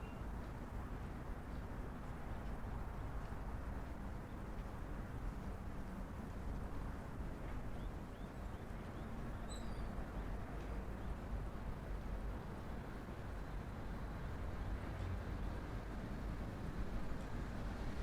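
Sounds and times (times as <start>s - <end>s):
distant city traffic hum: 0.0s - 18.0s.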